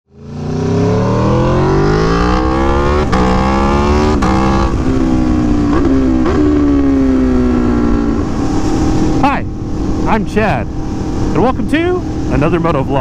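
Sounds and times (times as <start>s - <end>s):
motorcycle engine accelerating: 0.1s - 13.0s
wind rush: 0.6s - 13.0s.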